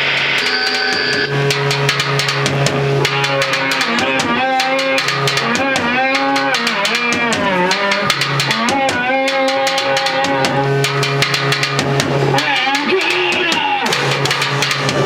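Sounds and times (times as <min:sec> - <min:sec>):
drum kit beating fast: 0:00.0 - 0:15.0
band playing live: 0:01.3 - 0:15.0.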